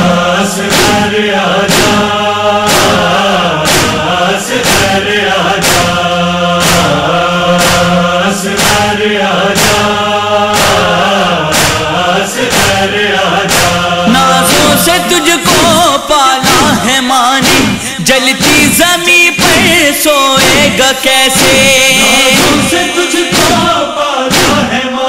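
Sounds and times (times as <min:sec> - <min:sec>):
sharp beat: 0:00.0 - 0:24.8
chanted vocal chorus: 0:00.0 - 0:25.0.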